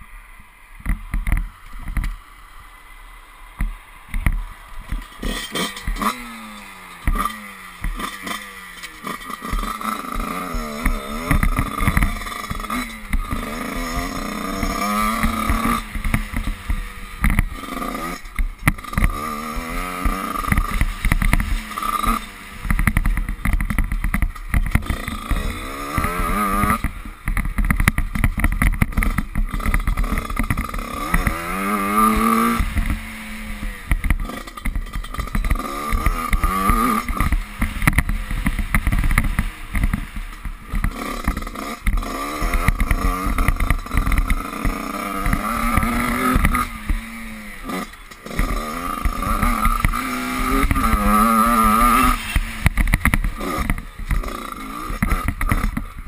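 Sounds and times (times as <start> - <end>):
motocross bike engine revving: 3.2 - 56.0
knocks from bumps: 7.0 - 56.0.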